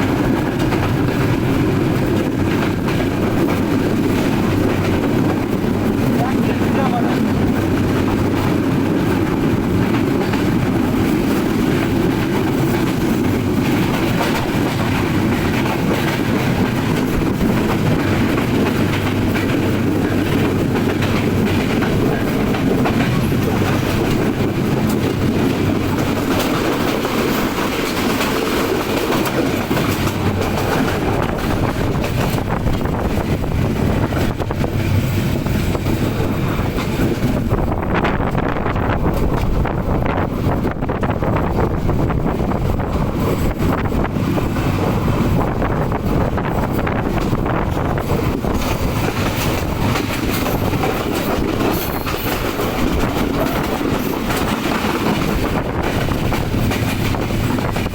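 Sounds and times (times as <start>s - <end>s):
passenger train running: 0.0s - 57.9s
wheels clicking over rail joints: 0.0s - 57.9s.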